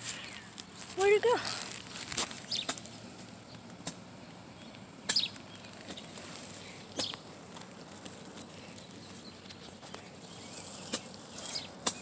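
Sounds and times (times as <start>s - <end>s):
grass rustling: 0.0s - 4.0s, 5.2s - 12.0s.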